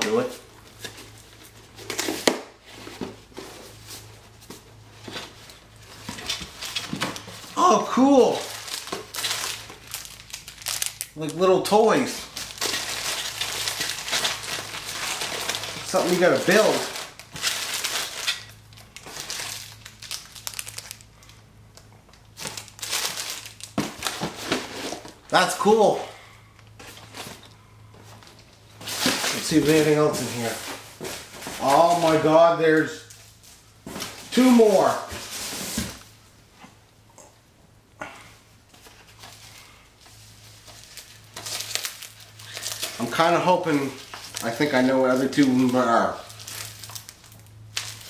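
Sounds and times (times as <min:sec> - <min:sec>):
rustling of packing tape: 0:00.0 - 0:07.6, 0:08.3 - 0:11.4, 0:12.0 - 0:25.4, 0:26.6 - 0:32.3, 0:38.7 - 0:48.0
low steady hum: 0:00.0 - 0:48.0
plastic bags crinkling: 0:05.0 - 0:25.5, 0:26.7 - 0:36.0, 0:38.8 - 0:48.0.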